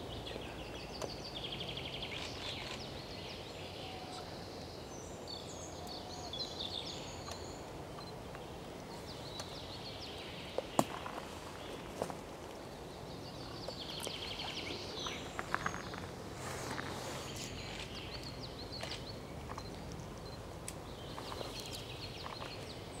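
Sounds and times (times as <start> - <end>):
low background noise: 0.0 - 23.0
songbirds chirping: 0.0 - 23.0.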